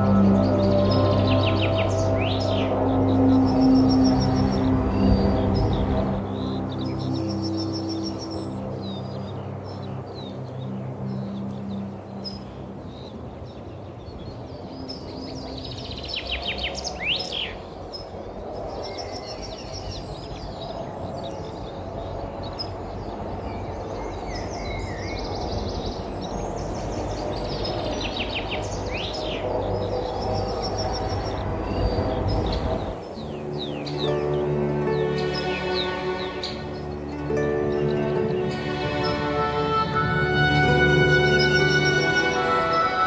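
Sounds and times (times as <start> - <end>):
low background rush: 0.0 - 43.0
songbird singing: 0.0 - 43.0.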